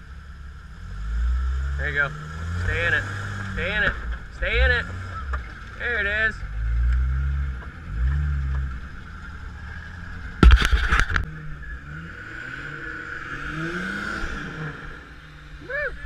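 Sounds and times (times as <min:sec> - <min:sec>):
engine revving under load: 0:00.6 - 0:16.0.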